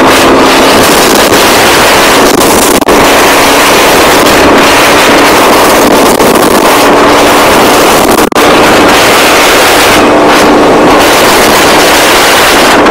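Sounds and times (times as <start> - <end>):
motorcycle engine drone: 0.0 - 12.9
wind rushing over microphone: 0.0 - 12.9.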